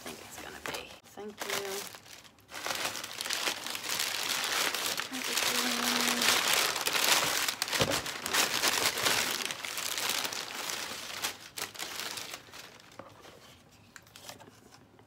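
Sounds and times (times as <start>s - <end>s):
packing paper crumpling: 0.0s - 14.4s.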